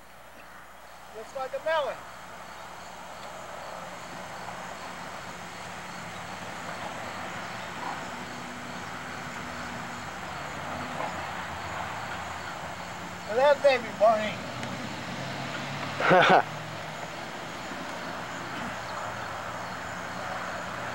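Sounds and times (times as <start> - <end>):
outdoor background noise: 0.0 - 20.9.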